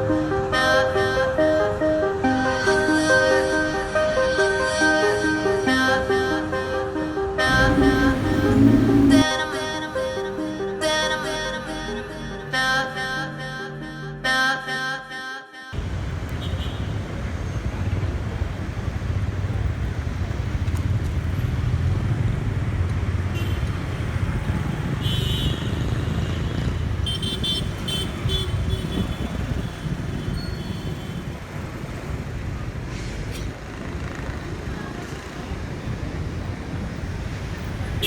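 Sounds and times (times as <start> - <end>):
traffic rumble and road noise: 0.0 - 9.3, 15.8 - 38.0.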